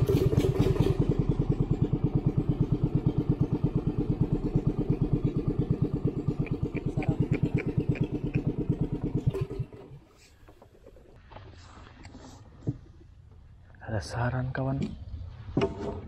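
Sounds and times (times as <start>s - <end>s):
small boat engine idling: 0.0s - 13.6s.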